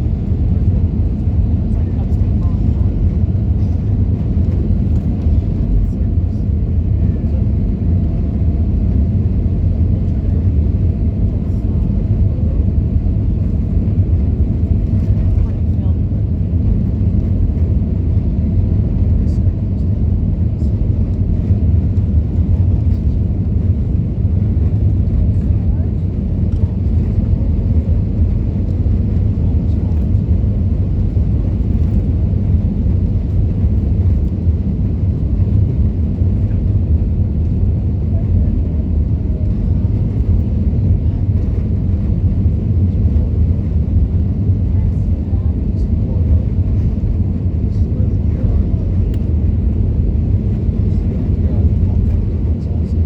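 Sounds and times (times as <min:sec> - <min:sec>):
airplane cabin rumble: 0:00.0 - 0:53.0.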